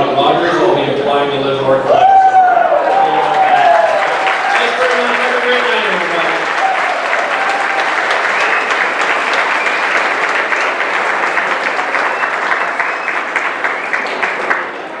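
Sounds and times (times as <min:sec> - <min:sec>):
audience applauding: 0:02.4 - 0:15.0.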